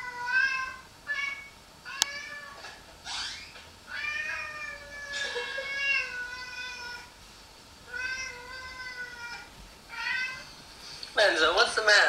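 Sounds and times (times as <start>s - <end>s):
cat meowing: 0.0s - 7.2s, 7.9s - 10.6s.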